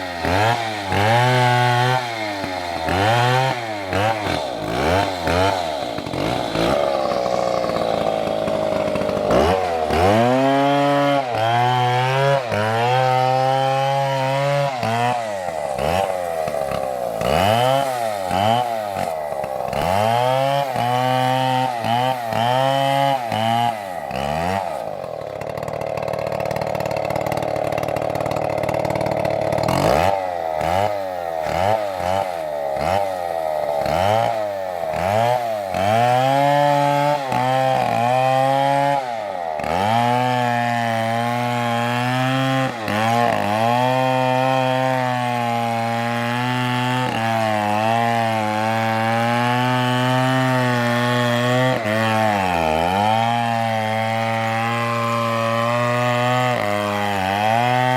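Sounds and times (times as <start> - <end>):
chainsaw cutting tree trunk: 0.0 - 57.9.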